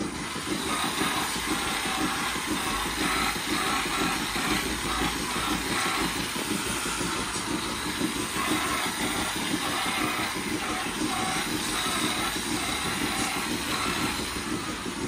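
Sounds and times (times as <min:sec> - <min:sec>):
milking machinery drone and hiss: 0:00.0 - 0:15.0.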